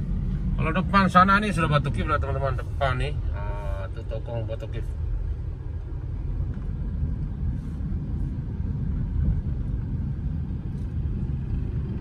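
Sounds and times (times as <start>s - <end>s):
road vehicle engine and road noise: 0.0s - 12.0s.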